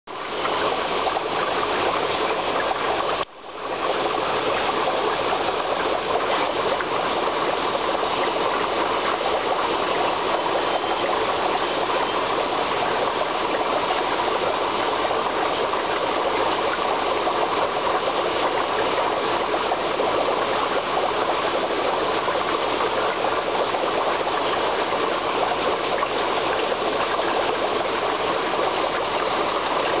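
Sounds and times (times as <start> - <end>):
running water in aquarium: 0.1 - 30.0.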